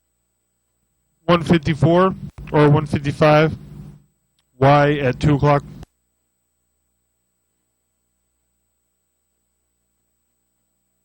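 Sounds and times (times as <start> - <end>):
faint electrical hum: 0.0 - 11.0
thin high whine: 1.3 - 11.0.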